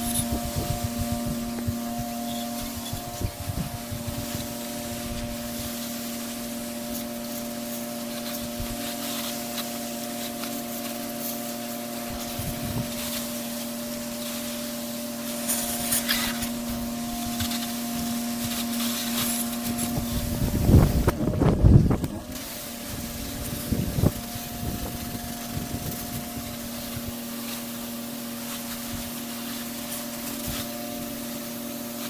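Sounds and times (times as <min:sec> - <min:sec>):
loud low buffeting: 0:00.0 - 0:32.0
pressure washer humming: 0:00.0 - 0:32.0
water spray hissing: 0:00.0 - 0:32.0.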